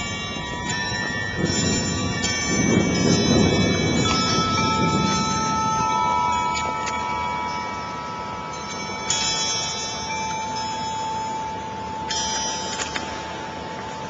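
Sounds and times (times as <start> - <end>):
metal tube wind chimes ringing: 0.0 - 14.0.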